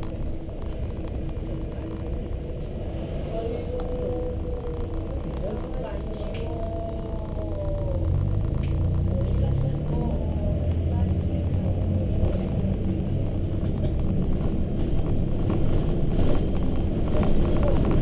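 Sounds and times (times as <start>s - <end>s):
bus diesel engine rumbling: 0.0s - 18.0s
road noise: 0.0s - 18.0s.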